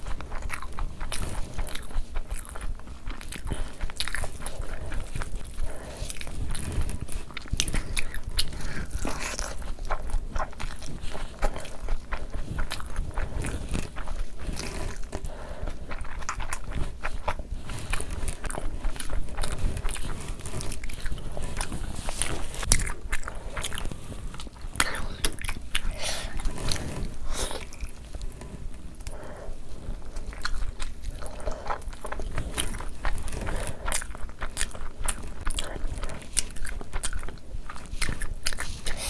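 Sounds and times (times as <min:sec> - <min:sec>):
chewing and biting food: 0:00.0 - 0:39.0.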